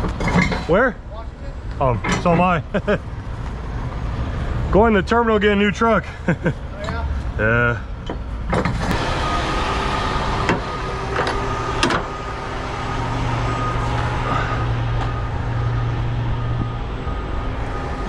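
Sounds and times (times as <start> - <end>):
diesel truck engine humming: 0.0 - 18.0.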